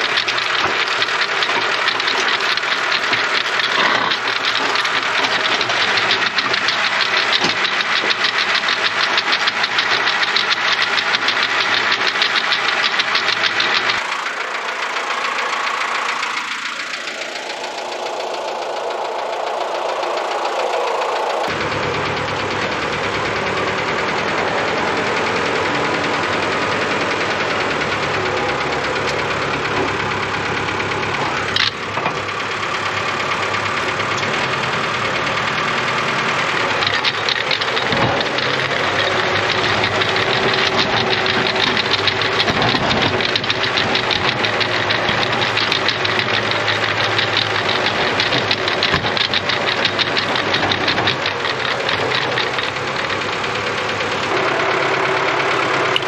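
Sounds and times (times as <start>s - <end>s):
rapid clatter: 0.0s - 56.0s
tractor diesel engine running: 0.0s - 56.0s.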